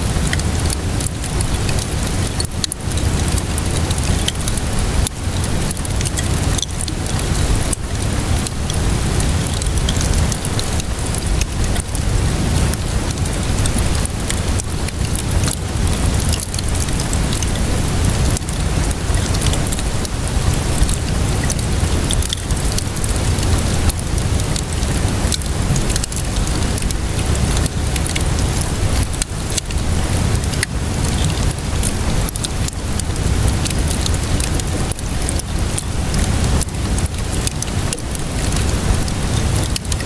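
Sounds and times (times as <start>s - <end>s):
steady rainfall: 0.0s - 40.0s
wood fire crackling: 0.0s - 40.0s.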